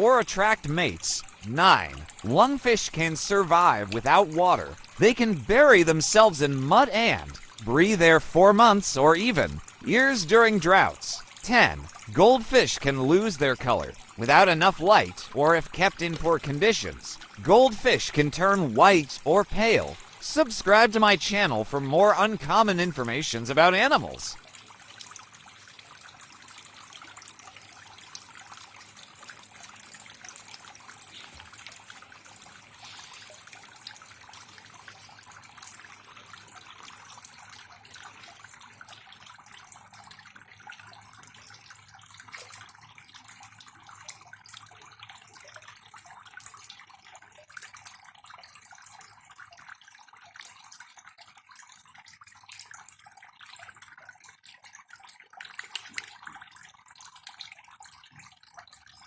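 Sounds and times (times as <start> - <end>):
water trickling and dripping: 0.0 - 59.0.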